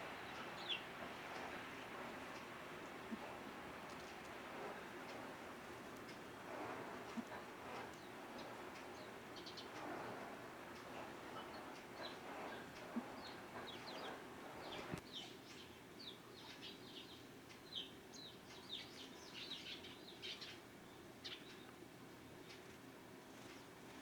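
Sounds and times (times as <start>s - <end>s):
small birds chirping: 0.0s - 6.3s, 6.9s - 21.8s.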